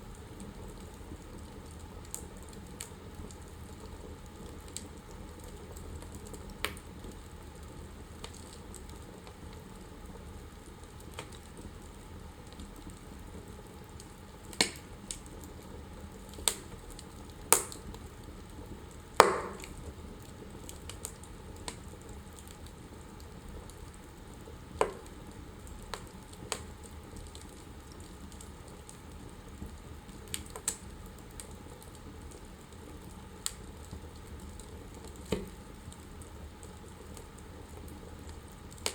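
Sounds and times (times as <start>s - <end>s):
wood fire hissing: 0.0s - 38.9s
fire pops and cracks: 0.1s - 38.9s.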